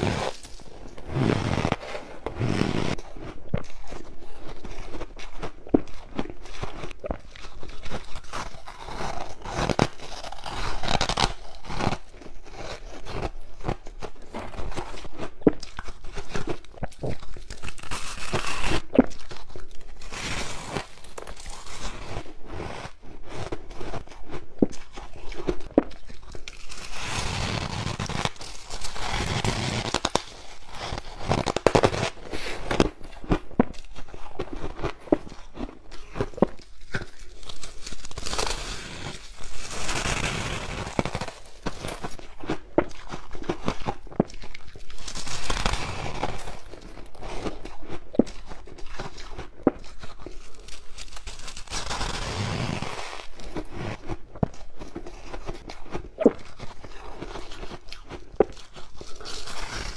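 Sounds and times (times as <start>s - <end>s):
squeaky crunching of chewed frost: 0.0s - 59.9s.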